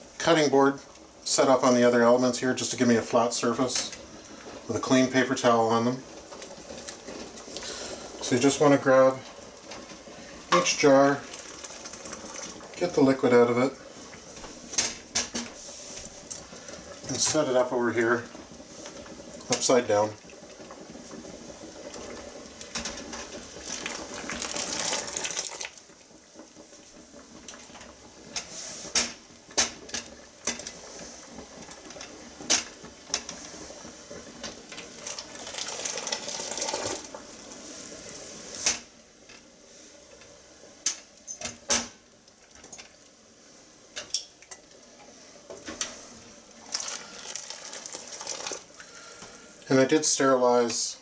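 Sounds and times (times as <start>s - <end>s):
water pouring into pot: 0.0s - 50.8s.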